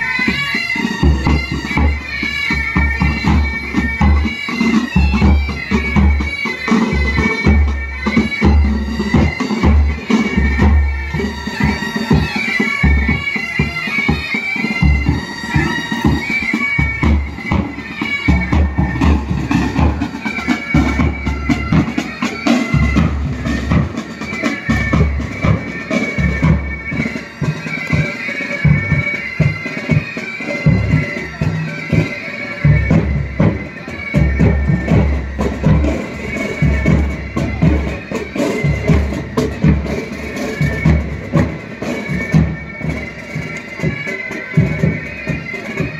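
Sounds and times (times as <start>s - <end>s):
bagpipes playing: 0.0s - 45.9s
marching drums: 0.0s - 45.9s.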